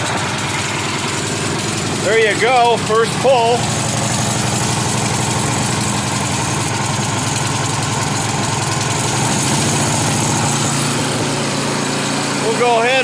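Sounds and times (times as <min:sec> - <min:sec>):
snow blower engine running: 0:00.0 - 0:13.0.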